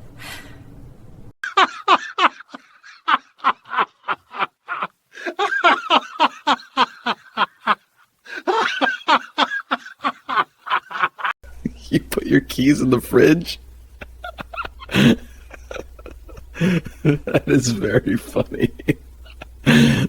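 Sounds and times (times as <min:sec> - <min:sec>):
person laughing heartily: 0:01.4 - 0:11.8, 0:14.0 - 0:20.0.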